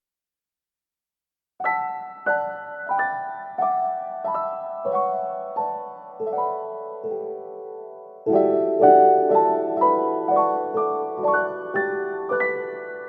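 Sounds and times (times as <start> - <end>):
gentle piano melody: 1.6 - 13.0.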